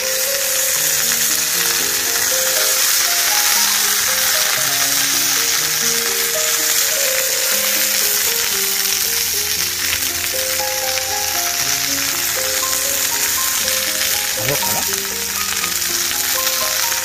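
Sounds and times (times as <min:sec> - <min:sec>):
slow background music: 0:00.0 - 0:17.0
steak sizzling in a pan: 0:00.0 - 0:17.0.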